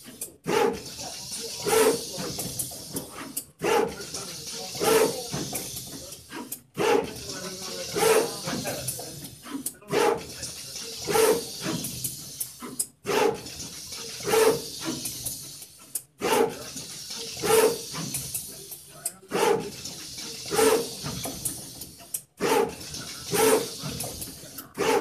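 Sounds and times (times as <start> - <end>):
pick-and-place machine running: 0.0 - 25.0.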